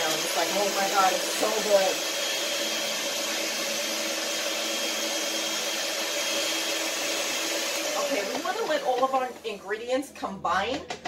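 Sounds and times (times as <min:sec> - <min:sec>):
electric hand mixer running: 0:00.0 - 0:09.7.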